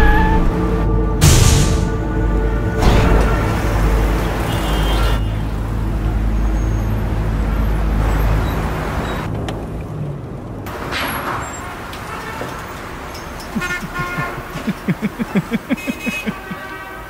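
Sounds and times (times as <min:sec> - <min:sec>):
car engines idling: 0:02.0 - 0:17.0.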